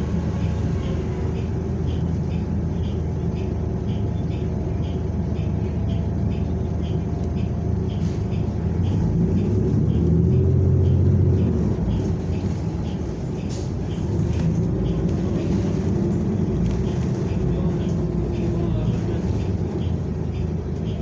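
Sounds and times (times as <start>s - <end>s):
bus engine and road rumble: 0.0s - 21.0s
light ticking: 0.8s - 21.0s.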